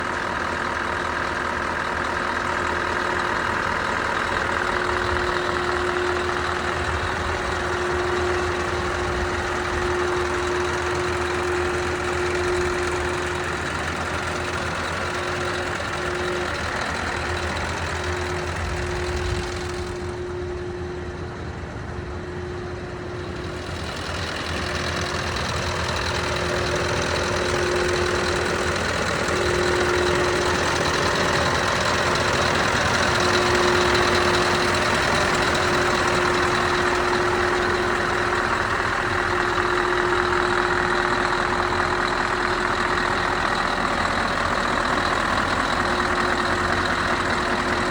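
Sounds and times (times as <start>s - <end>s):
diesel truck engine idling: 0.0s - 47.9s
steady whine: 0.0s - 47.9s.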